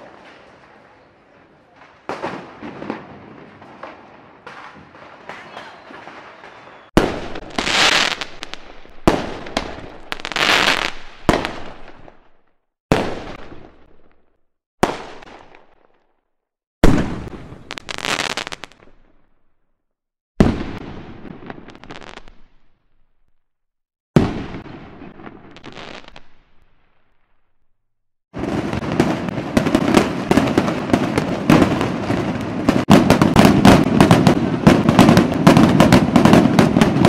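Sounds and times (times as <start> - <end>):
fireworks exploding with crackle: 0.0 - 19.6, 20.4 - 23.4, 24.2 - 27.7, 28.4 - 37.0.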